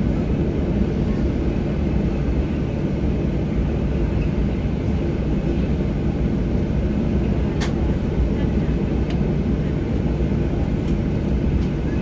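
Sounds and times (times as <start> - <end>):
jet engines idling rumble: 0.0 - 12.0.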